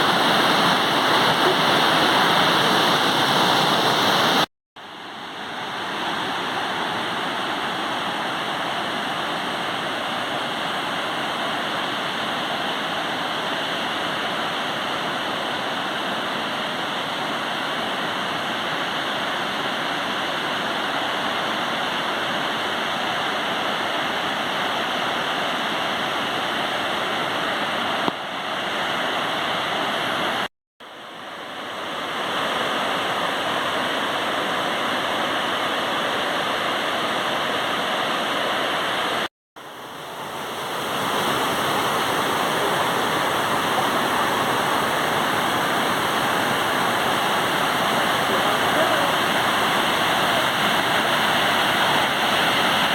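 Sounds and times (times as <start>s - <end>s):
waterfall rushing: 0.0s - 30.5s, 31.4s - 52.9s.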